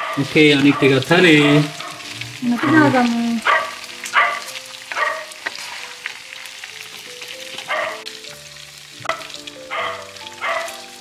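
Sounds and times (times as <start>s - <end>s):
chicken sizzling in hot oil: 0.0s - 11.0s
faint background music: 0.1s - 11.0s.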